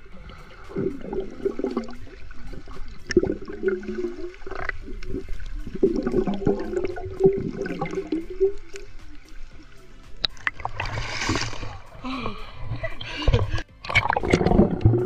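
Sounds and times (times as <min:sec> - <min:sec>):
water gurgling and sloshing: 0:00.0 - 0:15.0.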